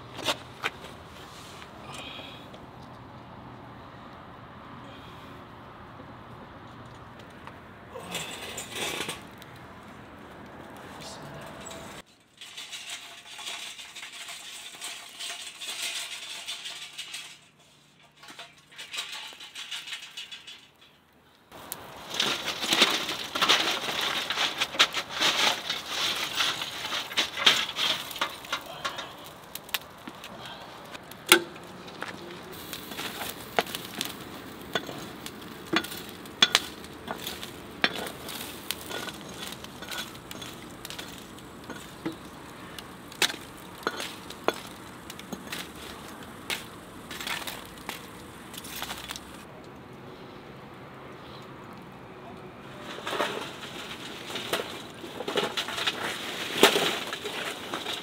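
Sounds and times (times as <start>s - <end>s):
burning charcoal clattering on concrete: 0.0s - 3.1s, 6.7s - 49.6s, 52.6s - 58.0s
clicks and crackles: 6.3s - 49.9s, 51.4s - 58.0s.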